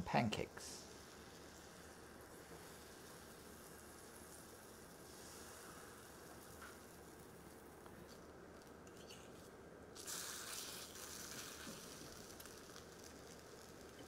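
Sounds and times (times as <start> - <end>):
pancakes sizzling in butter: 0.8 - 14.0.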